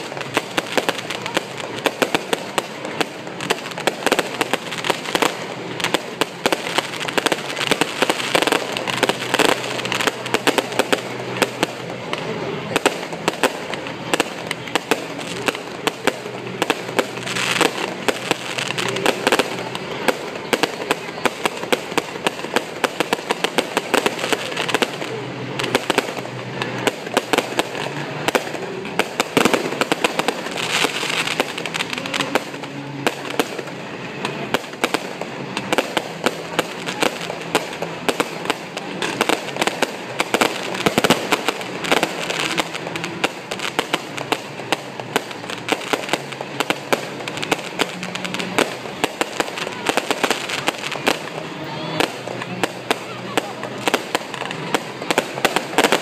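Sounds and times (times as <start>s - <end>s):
fireworks popping and crackling: 0.0s - 56.0s.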